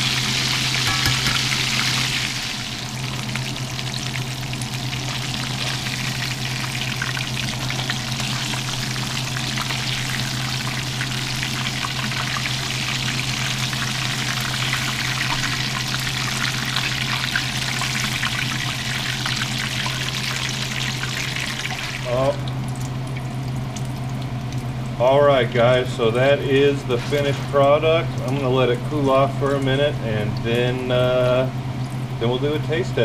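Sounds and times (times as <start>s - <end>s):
fish frying in hot oil: 0.0s - 33.0s.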